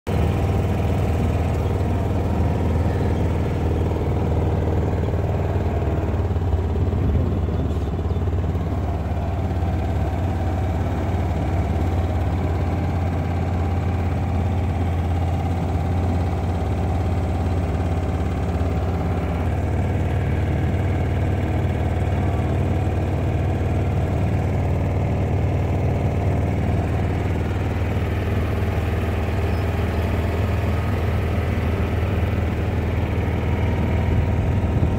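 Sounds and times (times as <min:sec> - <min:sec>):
utility vehicle engine droning: 0:00.1 - 0:34.9.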